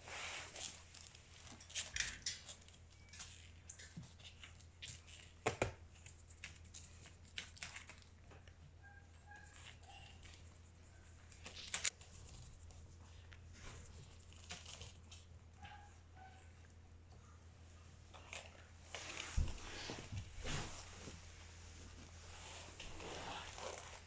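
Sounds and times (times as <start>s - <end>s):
low steady hum: 0.0s - 24.0s
rustling and handling noises: 0.0s - 24.0s.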